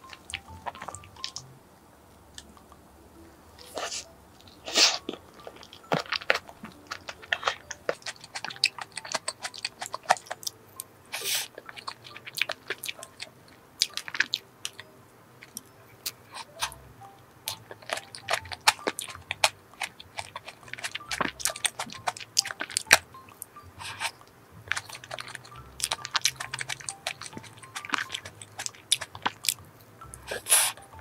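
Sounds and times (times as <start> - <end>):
chewing cake: 0.0 - 1.5, 3.6 - 16.8, 17.4 - 31.0.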